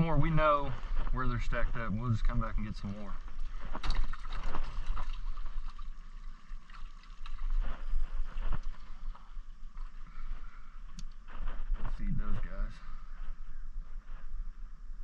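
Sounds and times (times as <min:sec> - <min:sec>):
steady low rumble: 0:00.0 - 0:06.2, 0:07.4 - 0:15.0.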